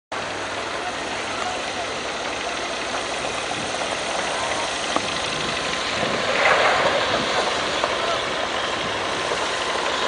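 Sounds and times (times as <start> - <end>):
engine running: 0.1 - 10.0
outdoor noise: 0.1 - 10.0.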